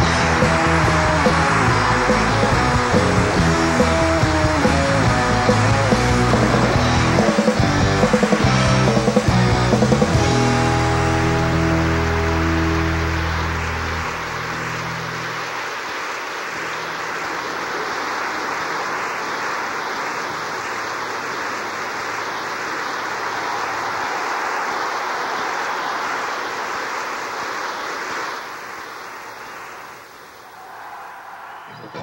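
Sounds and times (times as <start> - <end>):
audience applauding and cheering: 0.0 - 32.0.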